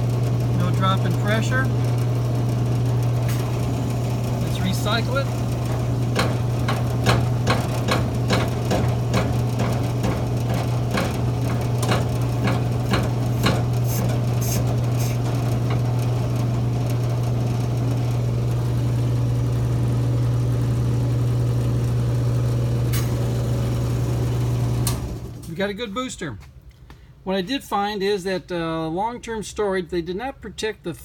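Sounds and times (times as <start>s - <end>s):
vacuum pump humming: 0.0s - 25.5s.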